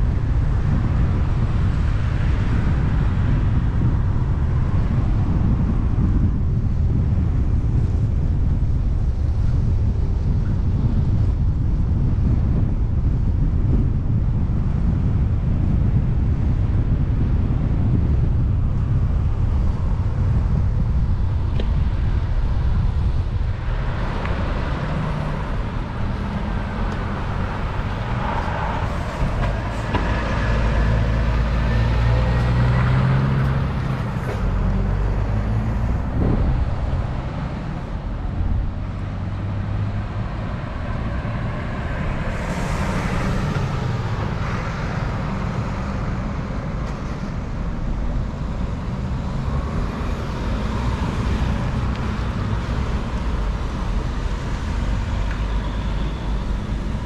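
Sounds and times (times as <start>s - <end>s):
road traffic passing: 0.0s - 57.0s
wind rumble on microphone: 0.0s - 57.0s.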